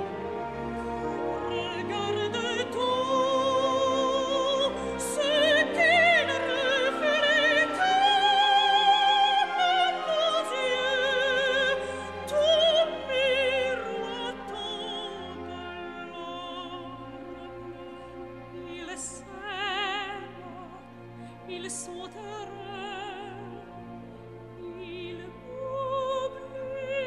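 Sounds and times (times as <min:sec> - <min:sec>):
operatic high voice singing: 0:00.0 - 0:20.8, 0:21.5 - 0:23.7, 0:24.5 - 0:27.0
orchestra strings and woodwinds: 0:00.0 - 0:27.0.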